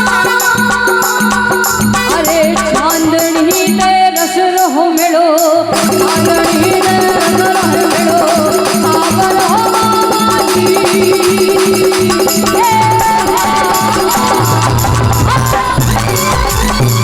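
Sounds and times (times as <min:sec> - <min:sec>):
folk instrumental melody: 0:00.0 - 0:04.0, 0:05.6 - 0:17.0
jingling percussion: 0:00.0 - 0:17.0
steady drum beat: 0:00.0 - 0:17.0.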